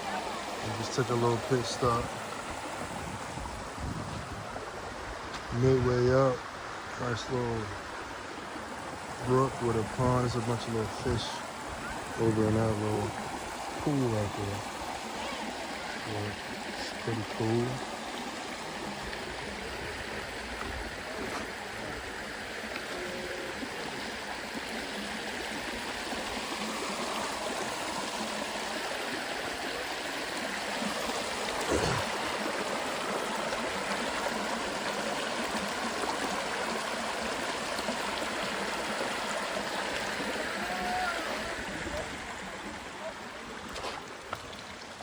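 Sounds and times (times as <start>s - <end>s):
brook flowing water: 0.0s - 45.0s.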